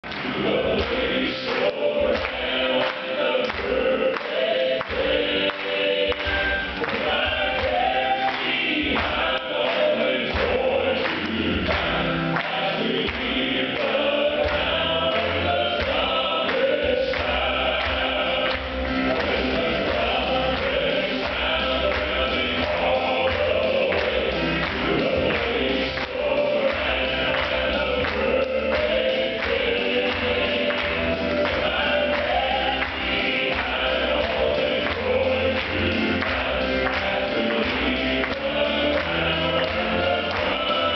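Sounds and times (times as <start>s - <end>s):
male quartet singing in harmony: 0.0s - 40.9s.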